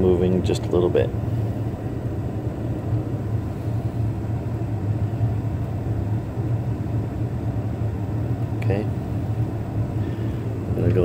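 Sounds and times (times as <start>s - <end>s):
gas furnace rumbling: 0.0s - 11.0s.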